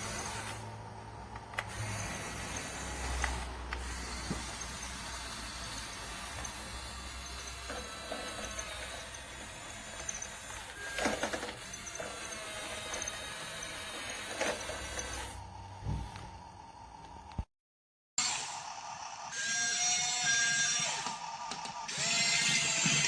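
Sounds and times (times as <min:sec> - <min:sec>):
toy motors and gears whirring: 0:00.0 - 0:17.2, 0:18.2 - 0:23.0.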